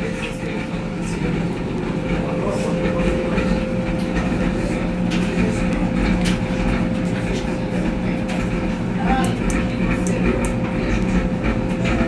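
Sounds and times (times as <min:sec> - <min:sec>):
washing machine whining and humming: 0:00.0 - 0:12.0.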